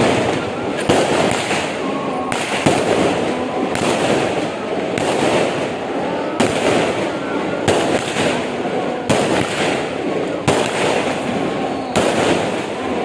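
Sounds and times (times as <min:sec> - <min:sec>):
fireworks crackling: 0:00.0 - 0:13.0
loud firework bangs: 0:00.0 - 0:13.0.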